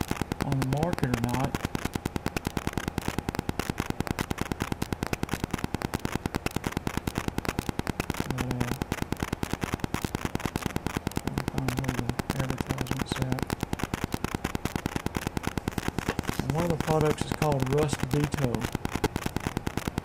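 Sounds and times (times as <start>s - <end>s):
rapid electrical clicking: 0.0s - 20.0s.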